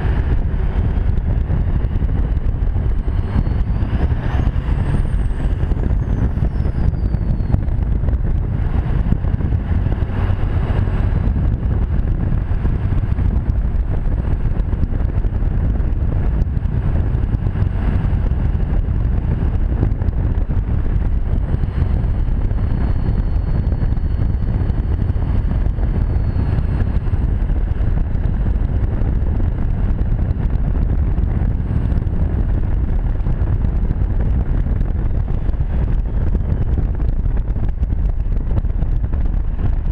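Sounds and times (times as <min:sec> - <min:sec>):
diesel engine low rumble: 0:00.0 - 0:39.9.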